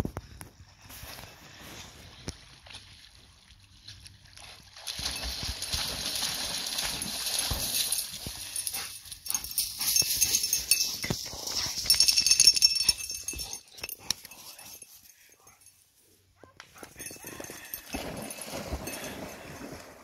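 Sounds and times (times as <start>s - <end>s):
dog swimming and splashing: 1.2s - 15.7s, 16.7s - 20.0s.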